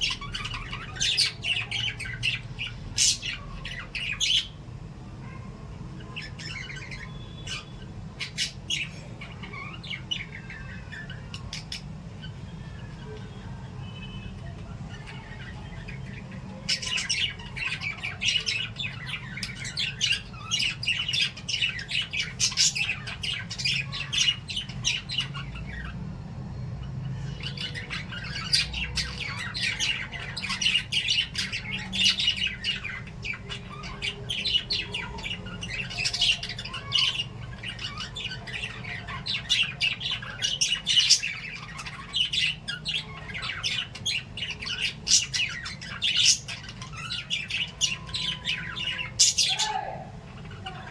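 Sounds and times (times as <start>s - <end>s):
parrots chirping and squawking: 0.0s - 50.9s.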